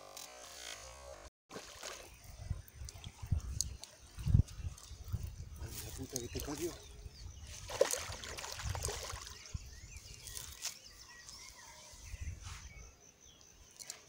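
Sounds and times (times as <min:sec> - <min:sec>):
faint bird chirps: 0:02.0 - 0:14.0.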